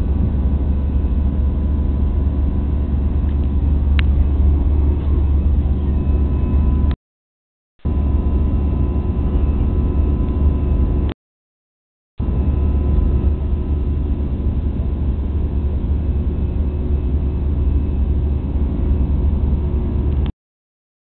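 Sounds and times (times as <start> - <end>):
jet engine rumble: 0.0 - 7.0, 7.8 - 11.2, 12.2 - 20.3.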